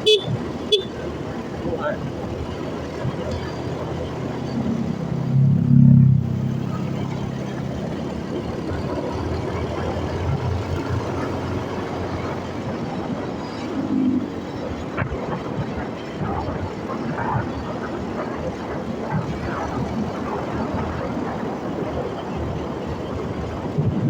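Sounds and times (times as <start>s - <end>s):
low vehicle rumble: 0.0s - 24.0s
motorcycle road and wind noise: 0.0s - 24.0s.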